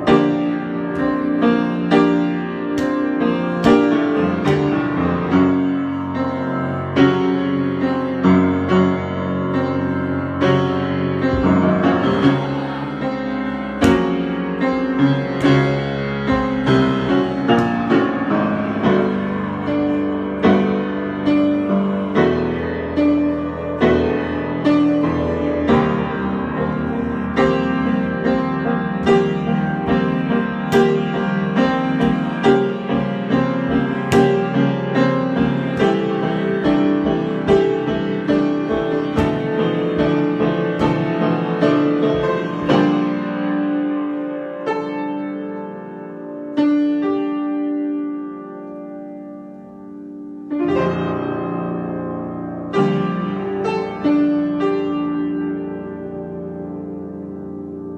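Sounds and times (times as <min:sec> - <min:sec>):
solo piano: 0:00.0 - 0:57.9.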